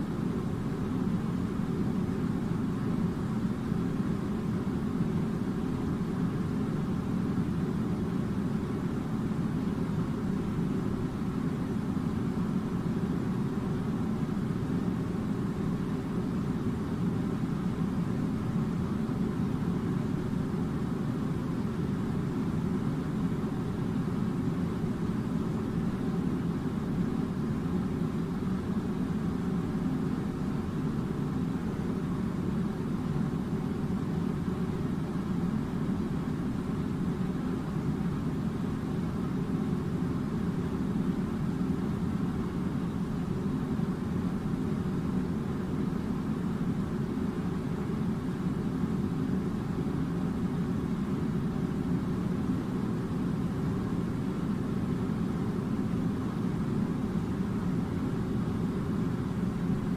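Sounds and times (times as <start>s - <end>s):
air conditioner droning: 0.0s - 59.9s.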